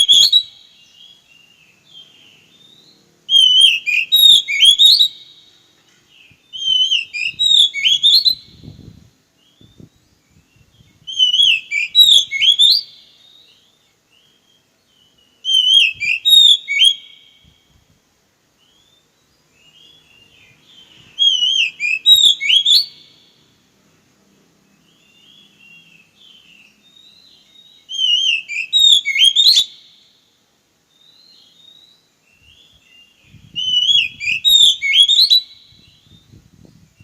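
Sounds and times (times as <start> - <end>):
bird singing whistled phrase: 0.0 - 5.4, 6.3 - 17.6, 18.6 - 23.2, 24.9 - 29.9, 30.9 - 37.0.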